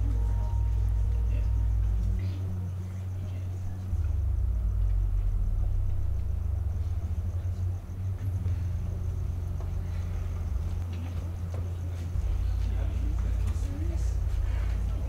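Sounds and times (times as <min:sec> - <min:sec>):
muffled bass-heavy dance music: 0:00.0 - 0:15.0.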